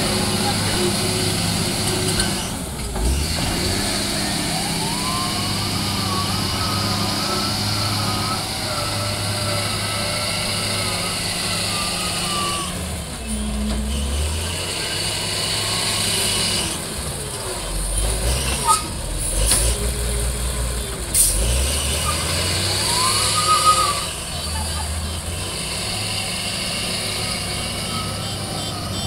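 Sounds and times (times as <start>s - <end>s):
diesel loader engine working: 0.0s - 29.0s.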